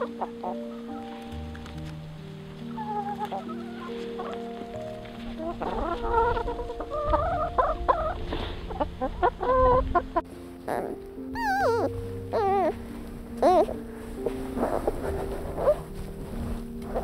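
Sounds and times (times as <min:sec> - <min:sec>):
chickens clucking: 0:00.0 - 0:16.2
soft background music: 0:00.0 - 0:17.0.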